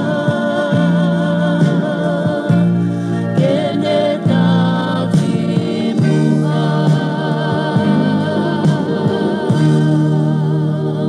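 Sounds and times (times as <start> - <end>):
gospel singing: 0.0 - 11.0.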